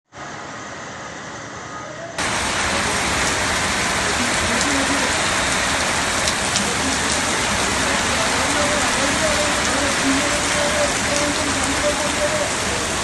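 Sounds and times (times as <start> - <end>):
heavy rain pouring: 2.2 - 13.0.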